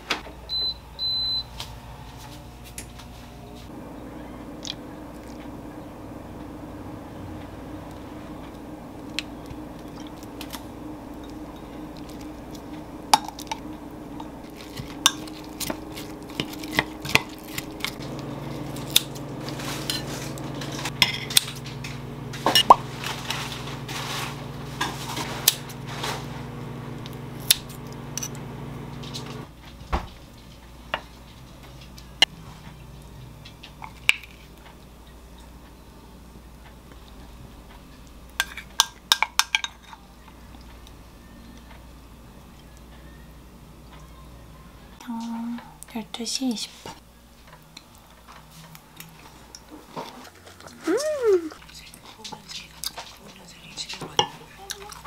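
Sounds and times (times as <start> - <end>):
steady low hum: 0.0 - 54.7.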